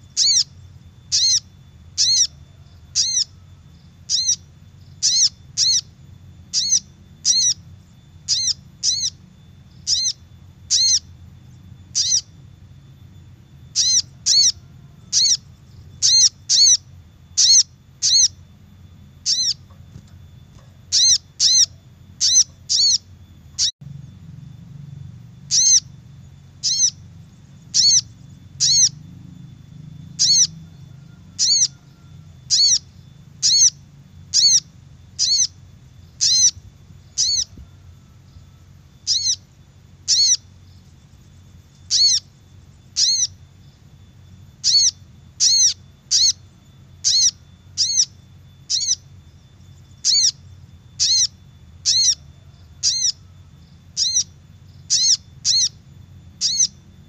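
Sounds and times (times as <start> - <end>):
bird calling sharp high chips: 0.0 - 18.6, 19.2 - 23.8, 25.4 - 57.0
faint low hum: 0.0 - 57.0.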